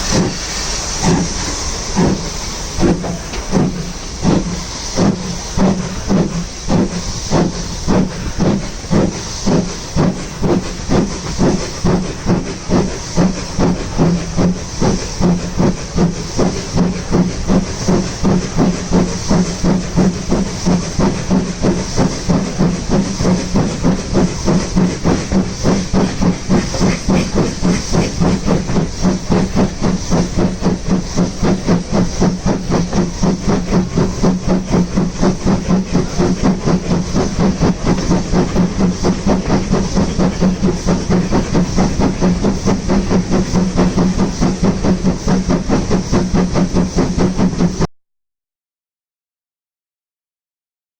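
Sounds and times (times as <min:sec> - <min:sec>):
steam hissing: 0:00.0 - 0:47.8
steam locomotive exhaust beats: 0:00.0 - 0:47.9.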